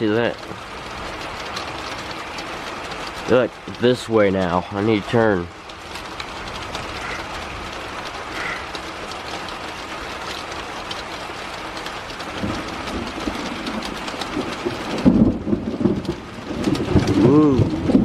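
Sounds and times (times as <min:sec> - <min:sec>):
heavy rain falling: 0:00.0 - 0:18.0
thunder rumbling: 0:00.0 - 0:18.0.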